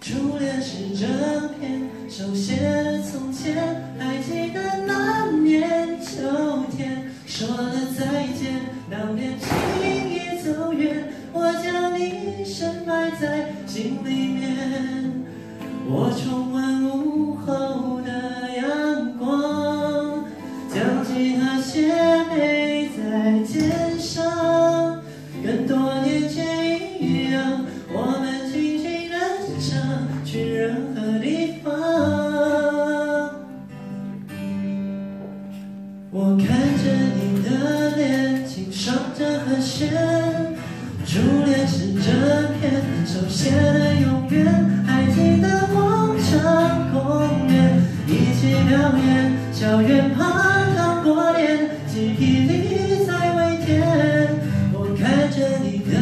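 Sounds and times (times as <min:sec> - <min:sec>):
man singing pop ballad: 0:00.0 - 0:33.6, 0:36.1 - 0:56.0
acoustic guitar: 0:00.0 - 0:56.0.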